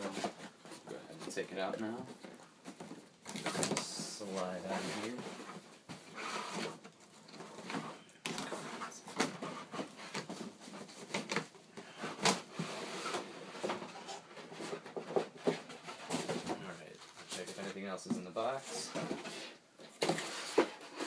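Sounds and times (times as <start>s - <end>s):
cardboard scraping and rustling: 0.0s - 21.0s.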